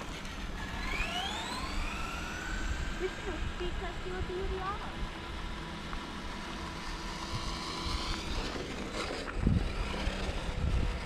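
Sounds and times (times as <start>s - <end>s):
outdoor noise: 0.0s - 11.0s
rc car motor whine: 0.0s - 11.0s.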